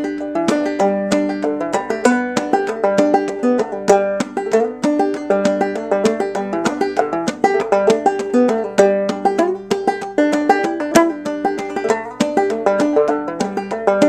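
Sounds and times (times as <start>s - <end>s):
banjo picking: 0.0s - 14.0s.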